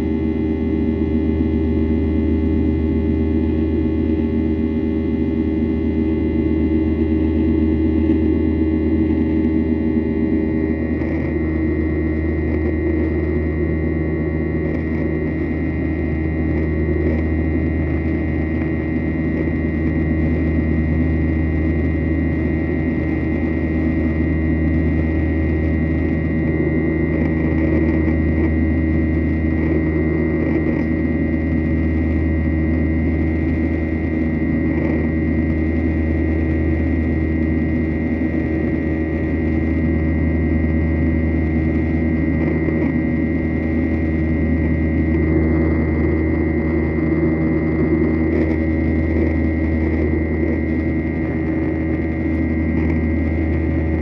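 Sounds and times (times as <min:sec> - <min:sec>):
high-pitched whine: 0:00.0 - 0:54.0
jet engine drone: 0:00.0 - 0:54.0.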